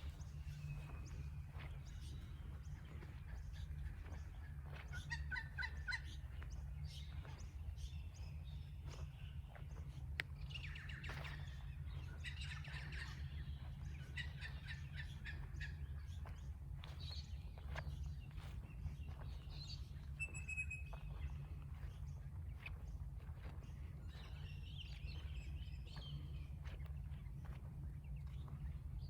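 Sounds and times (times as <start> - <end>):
birds chirping: 0.0 - 29.0
steady low hum: 0.0 - 29.0.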